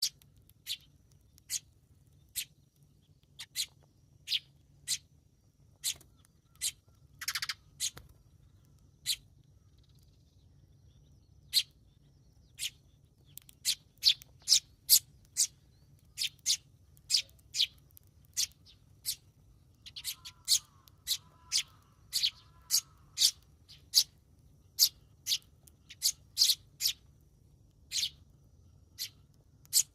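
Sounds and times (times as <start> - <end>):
sparrows chirping: 0.0 - 29.9.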